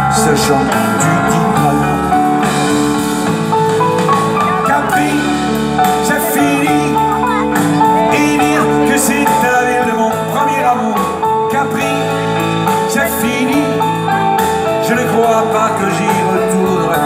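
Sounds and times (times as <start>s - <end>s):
live band playing pop music: 0.0s - 17.0s.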